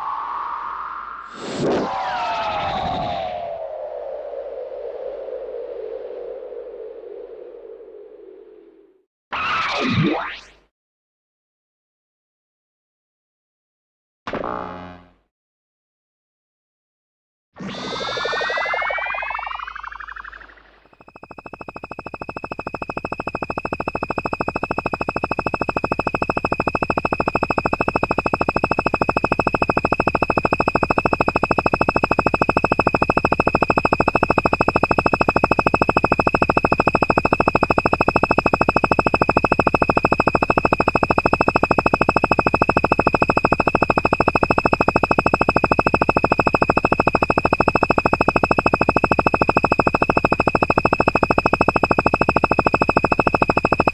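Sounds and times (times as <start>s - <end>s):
synthesized electronic hum: 0.0s - 2.6s, 3.2s - 9.0s, 17.7s - 53.9s.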